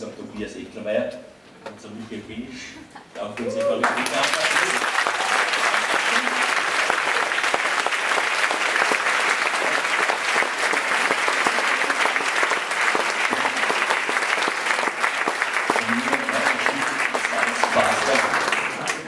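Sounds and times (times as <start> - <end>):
crowd applause: 3.4 - 19.0.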